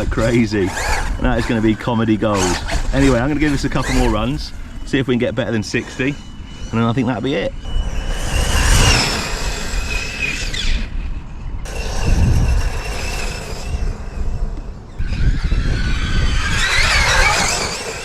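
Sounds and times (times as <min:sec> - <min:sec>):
electric motor whining: 0:00.0 - 0:18.0
low rumble: 0:01.1 - 0:18.0.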